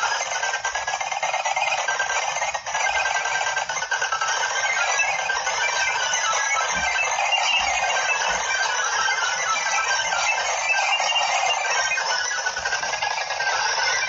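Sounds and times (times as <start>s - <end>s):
rapid high-pitched clicking: 0.0s - 14.0s.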